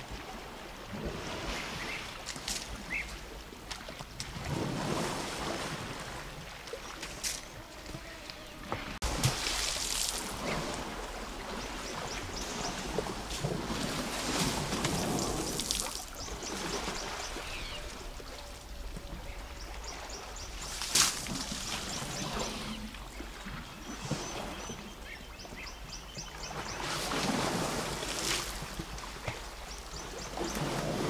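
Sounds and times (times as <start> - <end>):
elephants splashing in water: 0.0 - 8.2, 8.8 - 24.8, 26.4 - 31.0.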